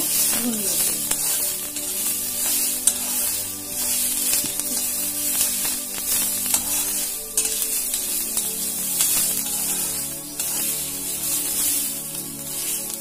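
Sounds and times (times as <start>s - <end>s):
metal spatula scraping pan: 0.0s - 13.0s
onions sizzling in hot oil: 0.0s - 13.0s.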